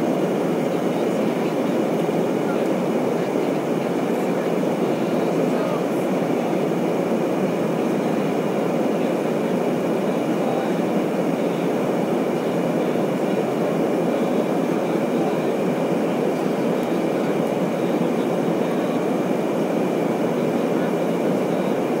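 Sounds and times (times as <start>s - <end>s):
faint steady whine: 0.0s - 22.0s
jet engine cabin rush: 0.0s - 22.0s.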